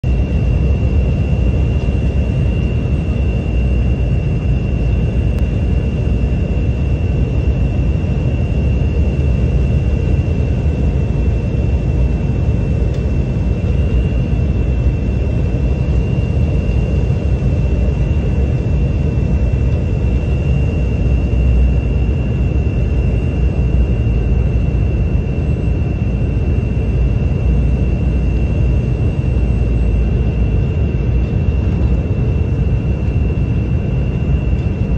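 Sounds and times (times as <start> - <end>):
jet engine rumble: 0.0 - 34.9
thin steady whine: 0.0 - 34.9.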